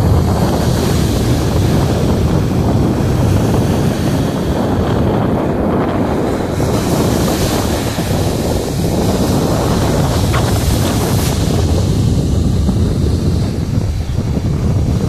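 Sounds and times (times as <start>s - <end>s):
surf breaking on rocks and beach: 0.0s - 15.0s
wind buffeting microphone: 0.0s - 15.0s.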